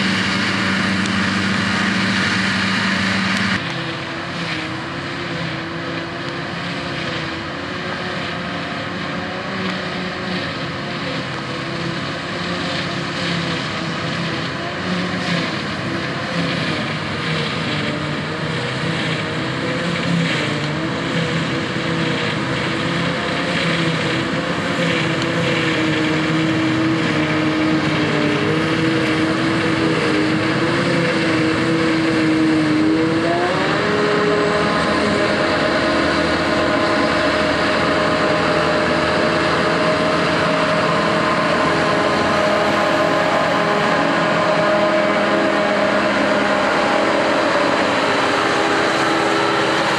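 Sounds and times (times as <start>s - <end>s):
heavy machinery engine revving: 0.0s - 49.9s.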